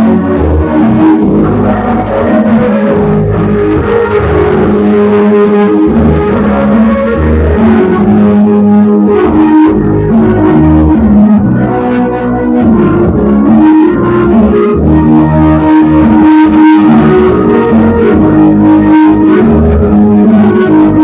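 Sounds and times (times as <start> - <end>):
bass line: 0.0 - 21.0
plucked guitar: 0.0 - 21.0.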